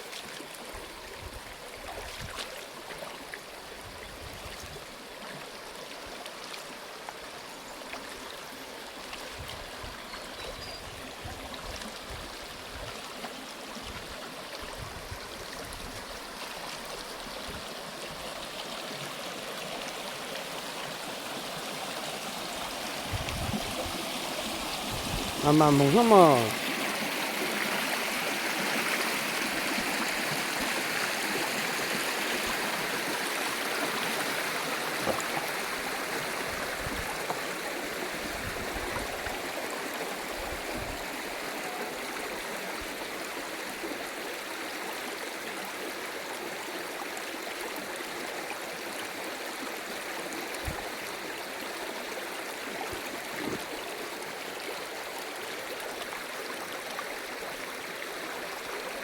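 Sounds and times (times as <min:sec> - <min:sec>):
stream water flowing over rocks: 0:00.0 - 0:59.0.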